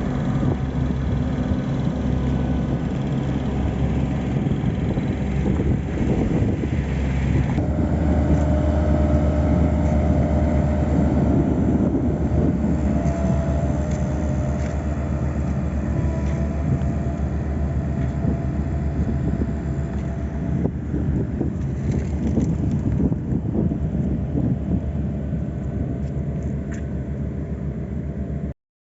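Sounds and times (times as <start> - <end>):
heavy machinery engine droning: 0.0 - 28.5
steady machine whine: 0.0 - 28.5.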